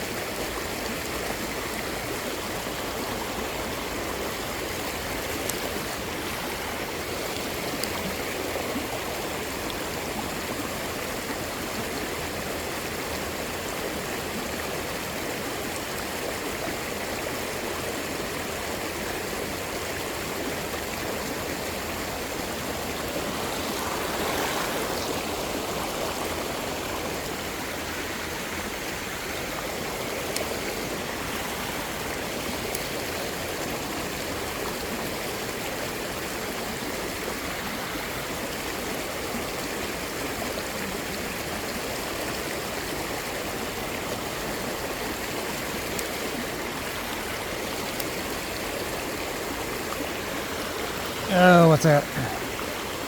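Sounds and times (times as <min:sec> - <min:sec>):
creek water rushing: 0:00.0 - 0:53.0.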